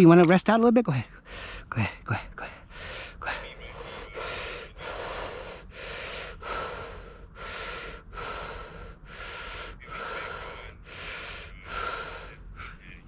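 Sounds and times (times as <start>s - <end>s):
person breathing hard: 1.2s - 13.0s.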